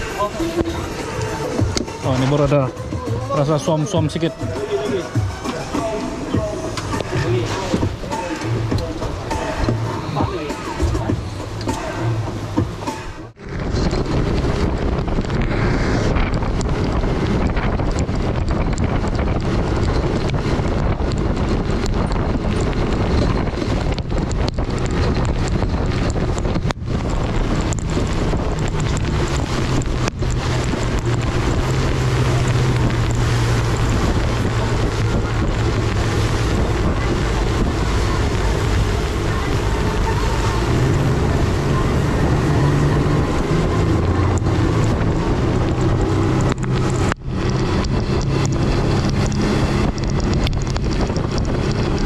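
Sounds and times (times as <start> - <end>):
boat engine drone: 0.0 - 52.0
spray and wake rushing: 0.0 - 52.0
wind buffeting microphone: 0.0 - 52.0.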